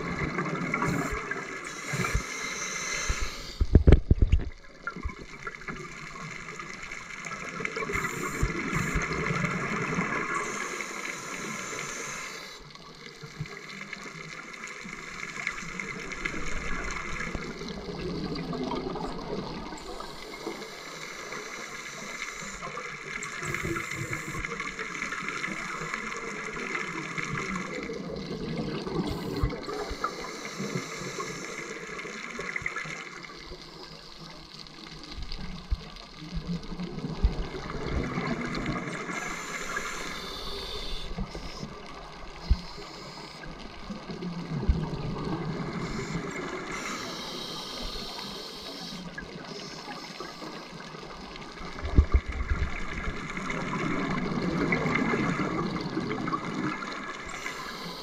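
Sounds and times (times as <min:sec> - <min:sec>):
underwater bubbles rushing and gurgling: 0:00.0 - 0:58.0.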